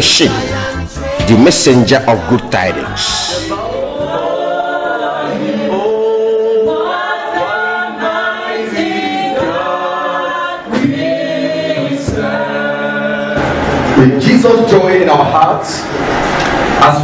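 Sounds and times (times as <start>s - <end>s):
choir singing long notes: 0.0s - 14.8s.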